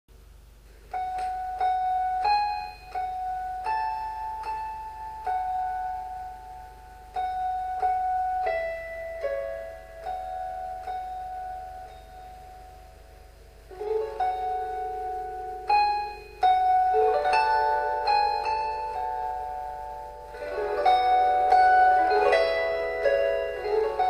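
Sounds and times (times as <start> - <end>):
slow piano melody: 0.7 - 24.0.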